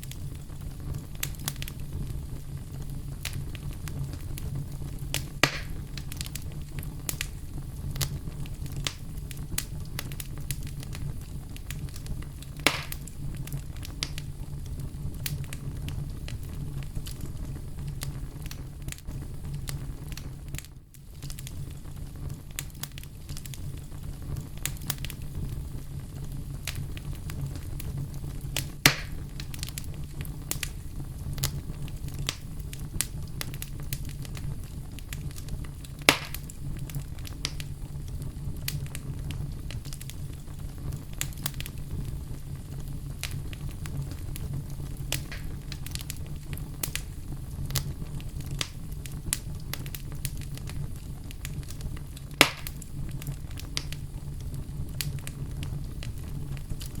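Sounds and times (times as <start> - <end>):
campfire crackling: 0.0 - 57.0
sharp fire pops: 0.0 - 57.0.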